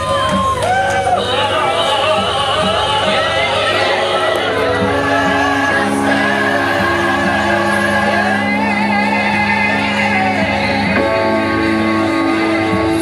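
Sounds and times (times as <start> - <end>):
keyboard chords: 0.0 - 13.0
steady bass: 0.0 - 13.0.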